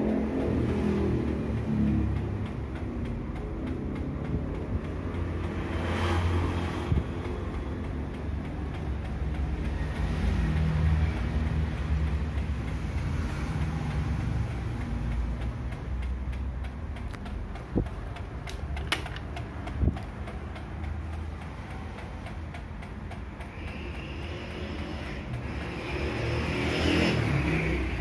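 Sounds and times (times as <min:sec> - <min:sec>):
electric fan motor hum: 0:00.0 - 0:28.0
fan switches clicking: 0:00.0 - 0:28.0
light ticking of fan: 0:00.0 - 0:28.0.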